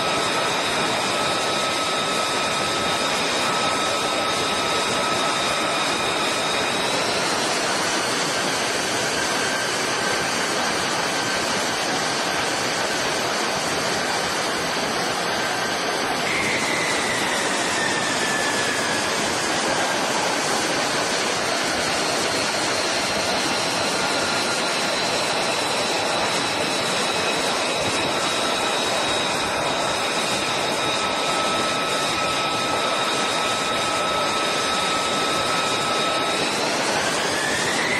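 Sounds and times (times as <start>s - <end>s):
jet engine running: 0.0s - 37.9s.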